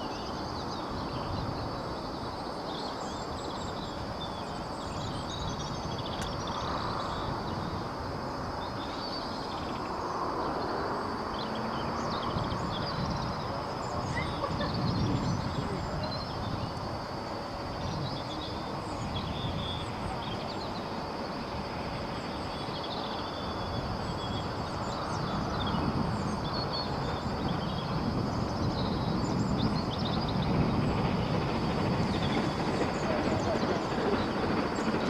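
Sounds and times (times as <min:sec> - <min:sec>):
distant train rumbling: 0:00.2 - 0:35.0.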